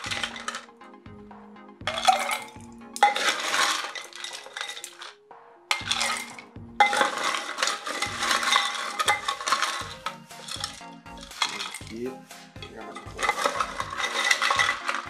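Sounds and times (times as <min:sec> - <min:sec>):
ice cubes clattering: 0:00.0 - 0:00.7, 0:01.9 - 0:12.0, 0:12.8 - 0:15.0.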